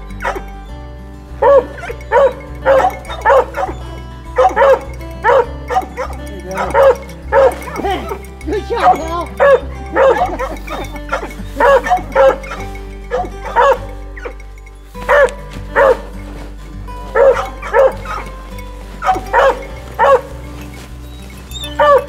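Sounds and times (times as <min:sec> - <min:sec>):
hound barking: 0:00.0 - 0:00.7, 0:01.3 - 0:22.0.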